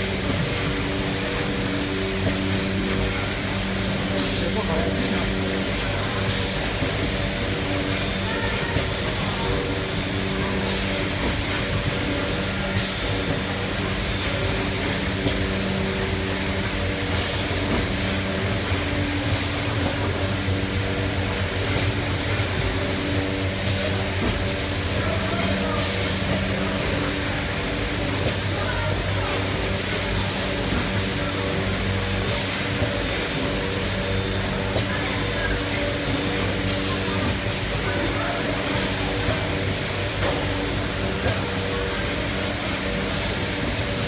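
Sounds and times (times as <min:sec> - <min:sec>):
machine mechanical hum: 0:00.0 - 0:44.0.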